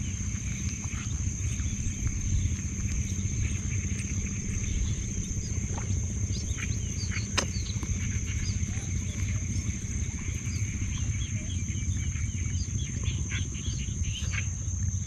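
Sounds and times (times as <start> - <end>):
high-pitched insect trill: 0.0 - 15.0
low rumble: 0.0 - 15.0.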